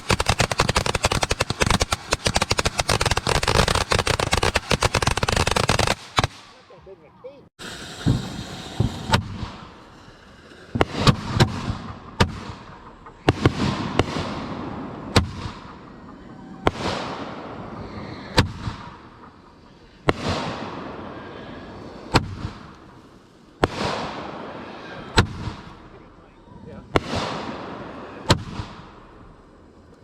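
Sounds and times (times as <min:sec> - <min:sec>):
crackling hiss: 0:00.0 - 0:06.8, 0:07.6 - 0:30.0
firework bangs: 0:00.0 - 0:06.8, 0:07.6 - 0:29.9.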